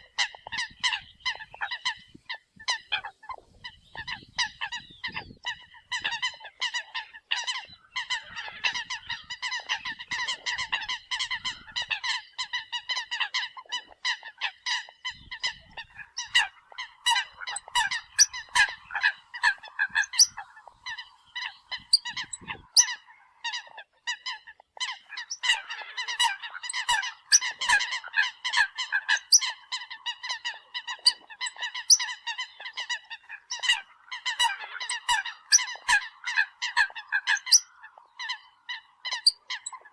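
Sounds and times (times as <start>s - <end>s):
coots honking calls: 4.0s - 39.9s.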